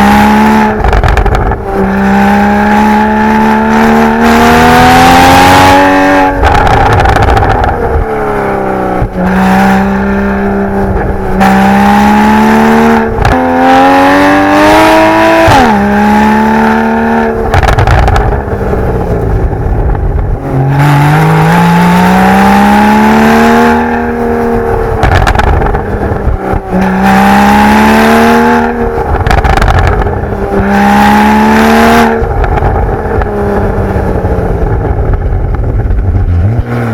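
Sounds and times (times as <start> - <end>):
sports car engine revving: 0.0 - 36.9.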